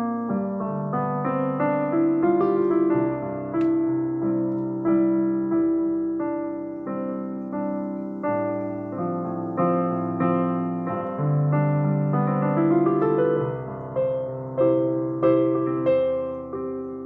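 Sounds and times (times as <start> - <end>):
slow solo piano music: 0.0 - 17.0.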